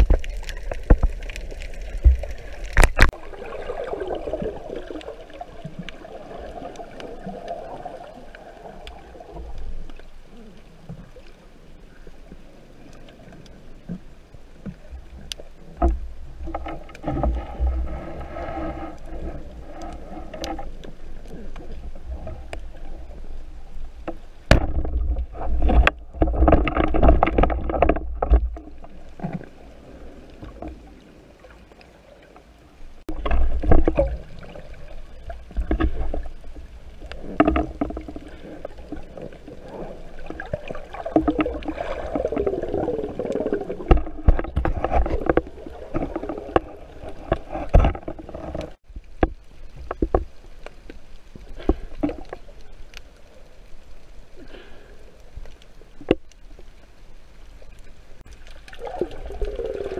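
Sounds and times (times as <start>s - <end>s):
underwater water rushing and bubbling: 0.0s - 59.9s.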